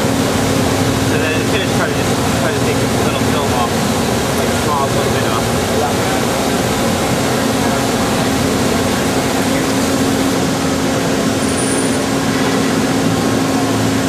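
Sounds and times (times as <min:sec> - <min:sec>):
lathe machine humming: 0:00.0 - 0:14.0.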